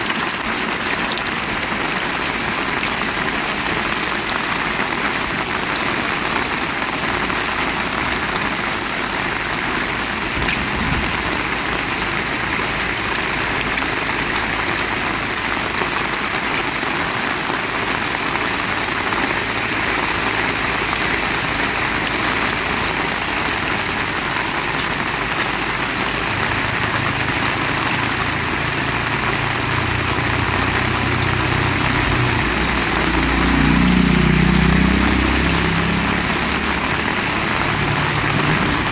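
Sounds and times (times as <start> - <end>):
approaching vehicle engine: 0.0 - 16.9, 17.8 - 38.9
heavy rain: 0.0 - 38.9.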